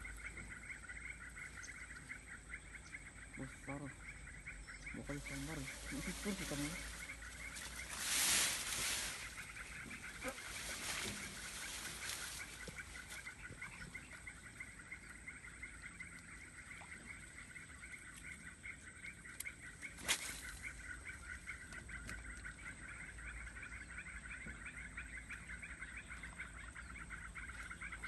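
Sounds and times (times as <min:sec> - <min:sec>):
chorus of pulsing frog calls: 0:00.0 - 0:28.0.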